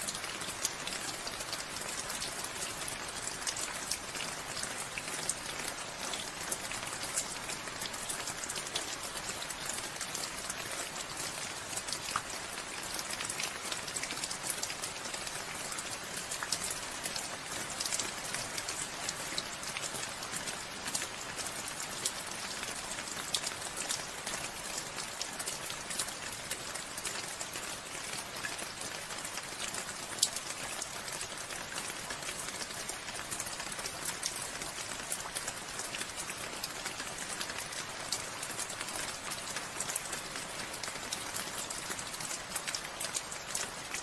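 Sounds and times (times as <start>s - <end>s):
raindrops ticking on surfaces: 0.0s - 44.0s
steady rainfall: 0.0s - 44.0s.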